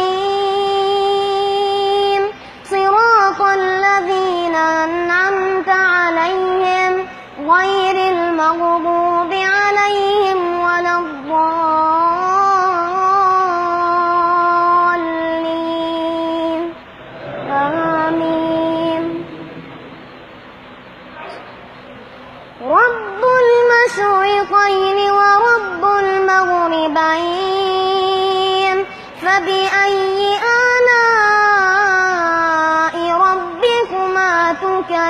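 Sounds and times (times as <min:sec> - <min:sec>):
child chanting melodically: 0:00.0 - 0:20.1, 0:22.6 - 0:35.0.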